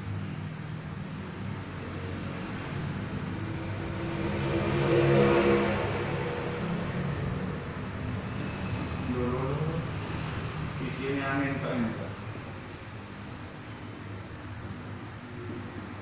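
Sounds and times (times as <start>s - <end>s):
motor vehicle passing by: 0.0s - 14.7s
steady low hum: 0.0s - 16.0s.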